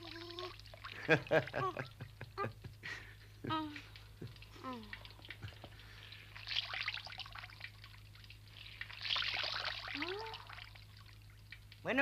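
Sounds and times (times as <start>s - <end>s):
water trickling into a basin: 0.0s - 12.0s.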